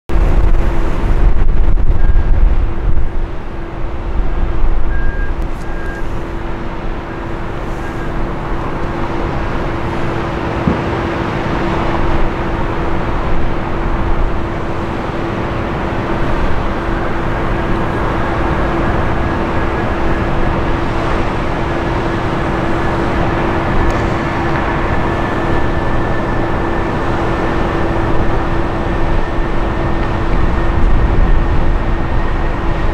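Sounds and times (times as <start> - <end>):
jet engines at takeoff power: 0.1 - 32.9.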